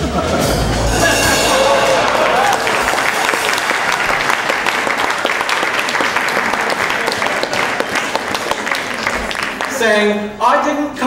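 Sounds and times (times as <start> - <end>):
audience applauding: 0.8 - 10.0.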